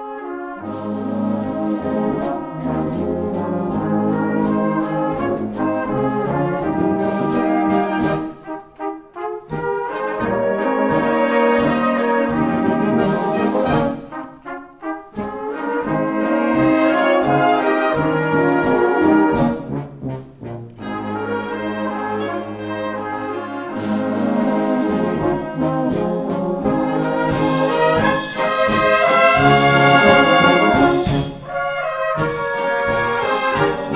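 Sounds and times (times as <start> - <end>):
brass band playing: 0.0 - 33.9.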